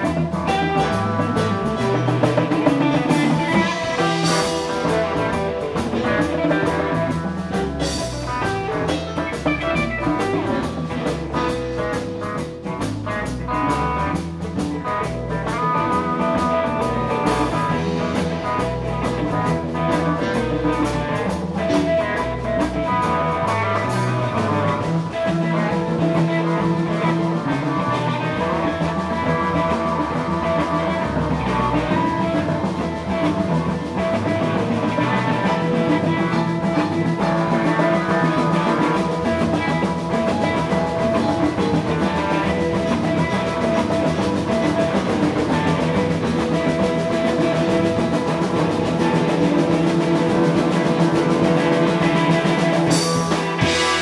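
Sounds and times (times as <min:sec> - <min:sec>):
drums: 0:00.0 - 0:54.0
electric guitar: 0:00.0 - 0:54.0
keyboards: 0:00.0 - 0:54.0.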